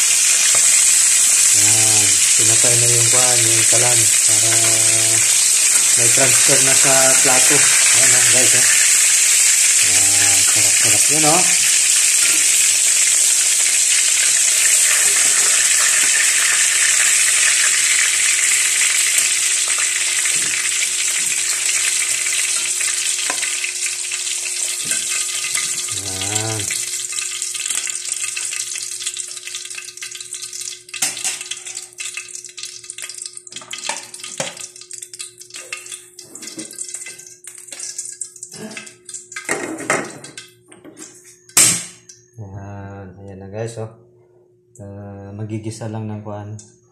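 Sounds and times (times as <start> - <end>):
hot oil sizzling in wok: 0.0 - 40.4.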